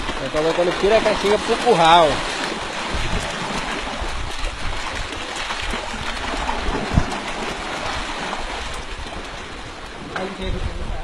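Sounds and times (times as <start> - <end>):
water rushing through wooden channel: 0.0 - 11.0.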